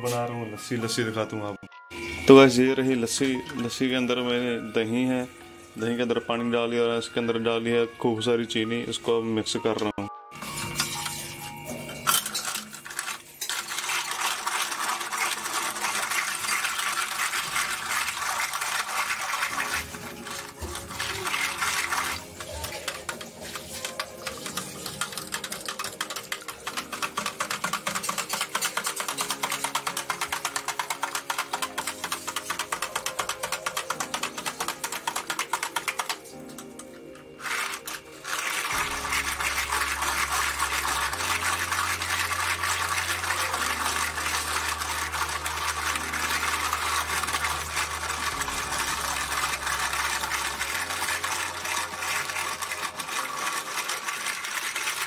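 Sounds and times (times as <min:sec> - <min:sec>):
liquid whisked in a vessel: 0:10.4 - 0:55.0.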